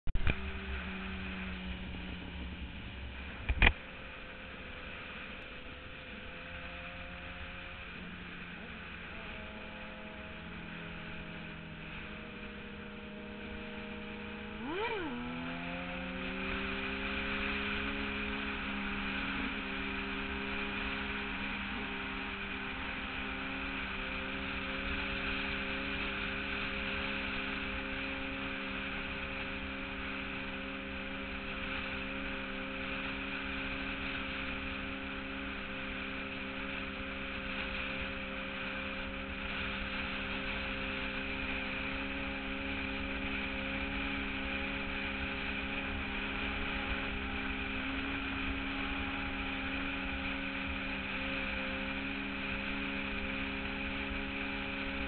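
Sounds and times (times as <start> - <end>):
motorcycle engines revving: 0.1 - 55.0.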